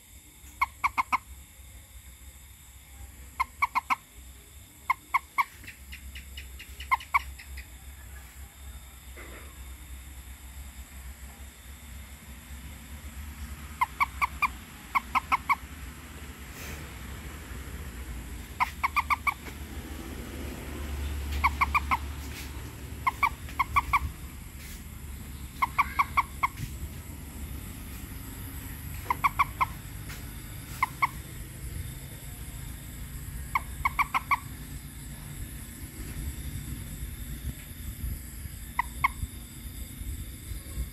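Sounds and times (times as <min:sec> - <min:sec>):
frog calling: 0:00.0 - 0:40.9.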